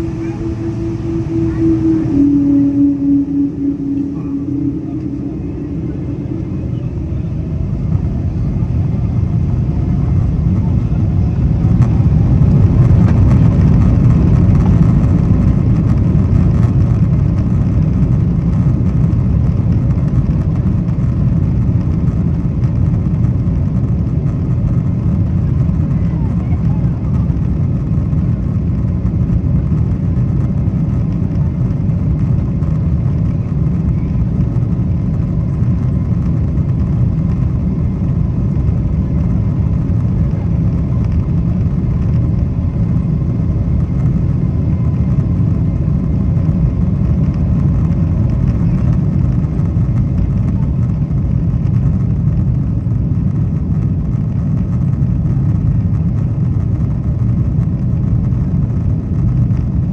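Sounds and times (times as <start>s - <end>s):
airplane engine roar in cabin: 0.0s - 59.9s.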